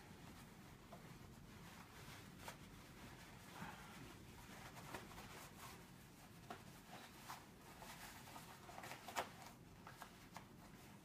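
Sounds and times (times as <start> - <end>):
fabric rustling and crinkling: 0.0 - 11.0.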